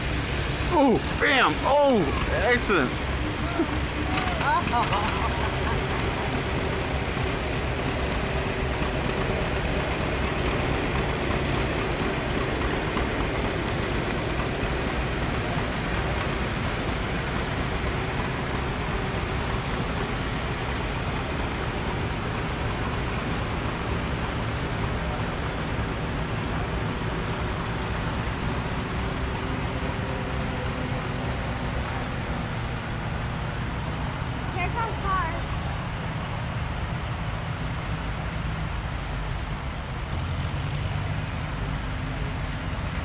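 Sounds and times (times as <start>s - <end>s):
tractor engines running: 0.0s - 43.0s.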